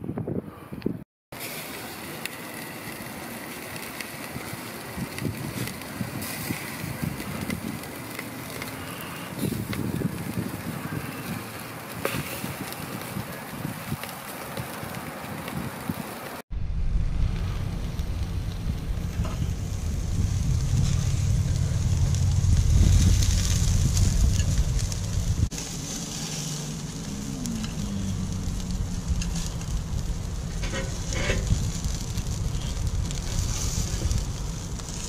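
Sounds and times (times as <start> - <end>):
wind rumble on microphone: 0.0 - 1.0, 3.8 - 35.0
meat sizzling on a grill: 1.4 - 16.4, 18.0 - 35.0
fat crackling and popping: 1.4 - 35.0.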